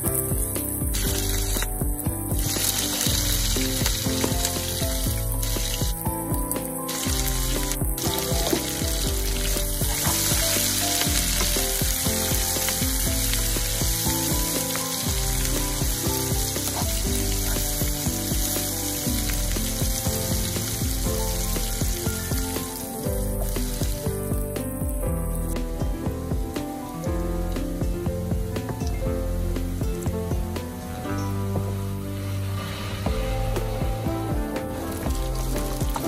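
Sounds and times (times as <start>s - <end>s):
background music: 0.0s - 36.0s
food sizzling in hot oil: 0.0s - 36.0s.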